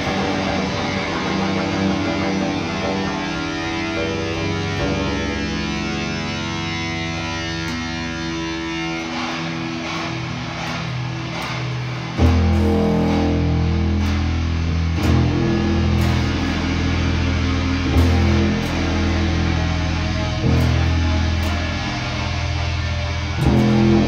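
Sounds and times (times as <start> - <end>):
distorted electric guitar notes: 0.0 - 24.0.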